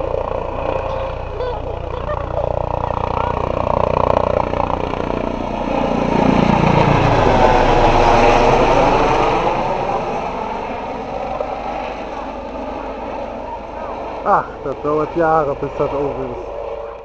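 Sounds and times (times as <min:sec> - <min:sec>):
helicopter rotor and turbine: 0:00.0 - 0:17.0.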